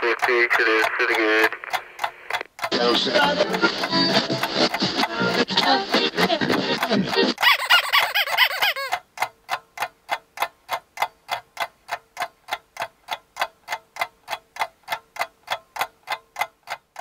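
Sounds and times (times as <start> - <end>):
steady ticking: 0.0 - 17.0.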